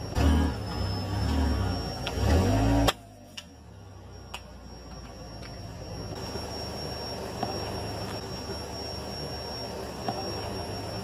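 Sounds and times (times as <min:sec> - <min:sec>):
car engine running low: 0:00.0 - 0:11.0.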